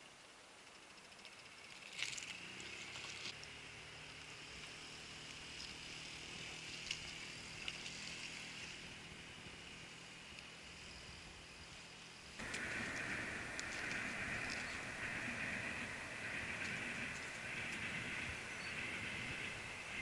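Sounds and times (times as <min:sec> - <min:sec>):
distant outboard engine hum: 0:00.0 - 0:20.0.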